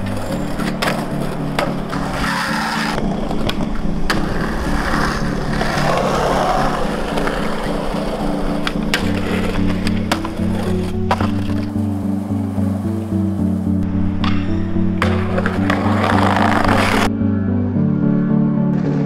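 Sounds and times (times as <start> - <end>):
skateboard clacks: 0.0 - 13.4, 14.1 - 17.1
skateboard wheels rolling on concrete: 0.0 - 17.1
background music with bass: 0.0 - 19.0.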